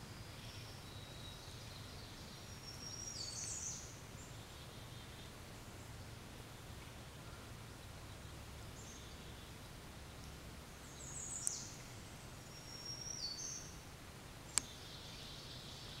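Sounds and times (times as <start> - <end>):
low outdoor rumble: 0.0 - 16.0
small woodland birds calling: 0.0 - 16.0.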